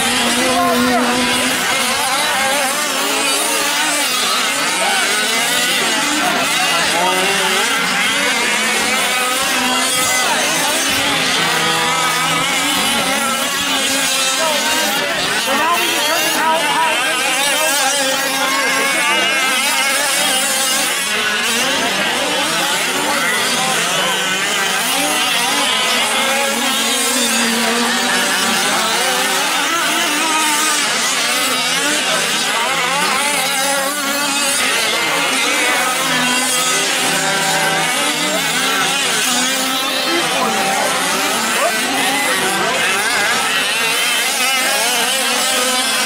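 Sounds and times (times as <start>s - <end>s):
small two-stroke engines revving: 0.0s - 46.0s.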